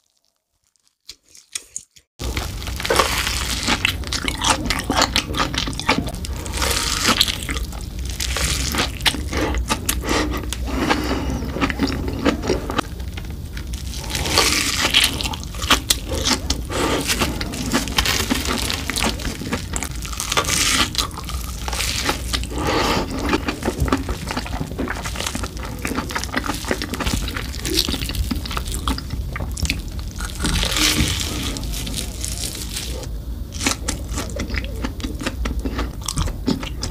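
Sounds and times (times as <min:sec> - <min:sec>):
crunchy chewing: 0:00.8 - 0:36.9.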